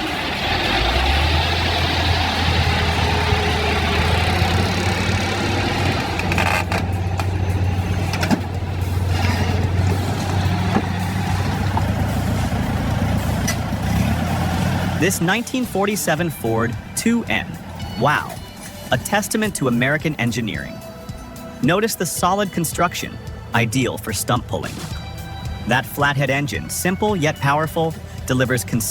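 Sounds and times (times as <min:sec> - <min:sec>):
heavy vehicle engine running: 0:00.0 - 0:28.9.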